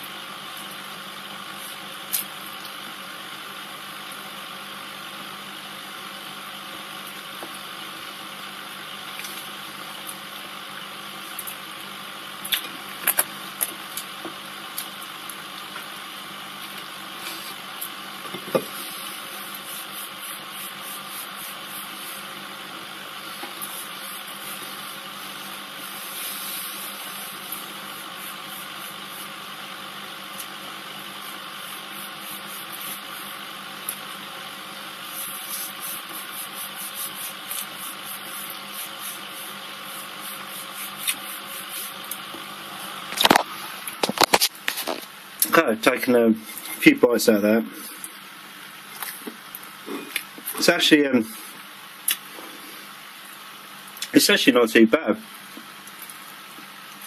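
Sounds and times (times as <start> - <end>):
aquarium air pump humming: 0.0 - 57.0.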